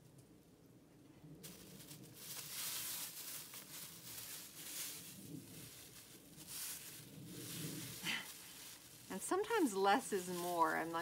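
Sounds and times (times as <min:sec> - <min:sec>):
plastic bag crinkling: 0:01.5 - 0:11.0.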